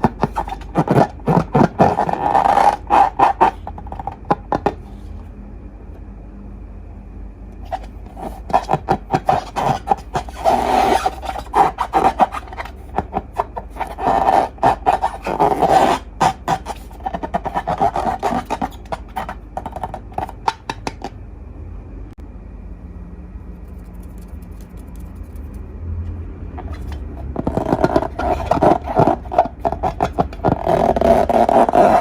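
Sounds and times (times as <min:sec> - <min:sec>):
slime rubbing: 0:00.0 - 0:05.2, 0:07.6 - 0:21.1, 0:23.6 - 0:25.7, 0:26.6 - 0:32.0.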